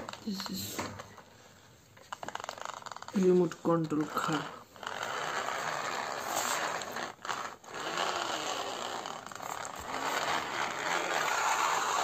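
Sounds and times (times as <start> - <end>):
toy car wheels rattling on floor: 0.0 - 12.0.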